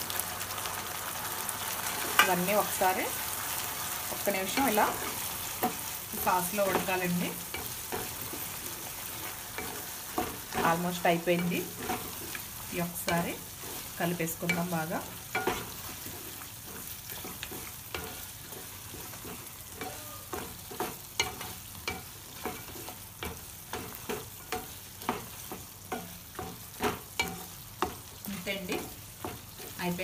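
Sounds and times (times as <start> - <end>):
sauce sizzling in a pan: 0.0 - 30.0
wooden spatula scraping a pan: 4.0 - 30.0.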